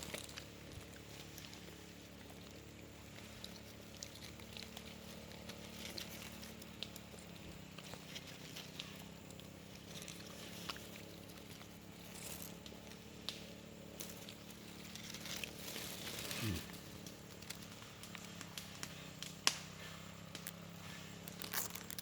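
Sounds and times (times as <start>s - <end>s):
leaves rustling and clicking: 0.0s - 22.0s
low steady hum: 0.0s - 22.0s.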